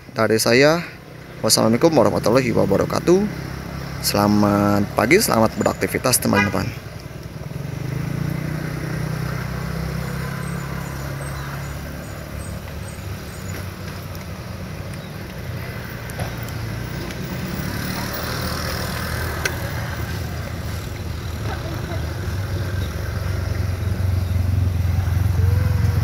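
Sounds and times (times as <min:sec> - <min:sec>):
road traffic rumble: 0:00.0 - 0:26.0
vehicle engine low hum: 0:01.2 - 0:26.0.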